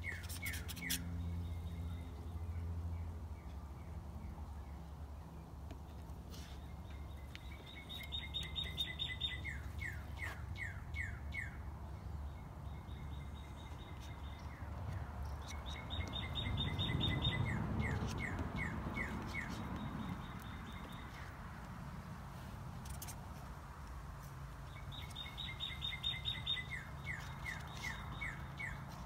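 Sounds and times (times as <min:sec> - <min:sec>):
songbird singing: 0:00.0 - 0:22.0, 0:24.6 - 0:29.0.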